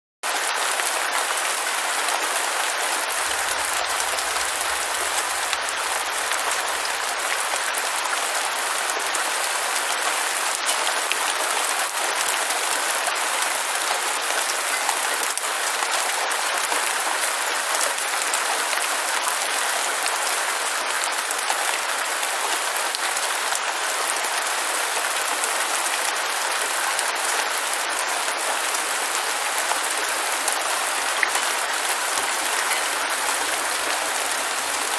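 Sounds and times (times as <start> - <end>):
steady rain hiss: 0.3 - 34.9.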